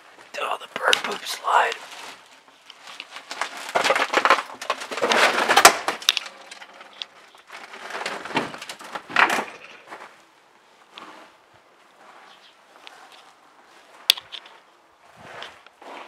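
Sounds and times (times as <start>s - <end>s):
footsteps crunching on debris: 0.0s - 16.0s.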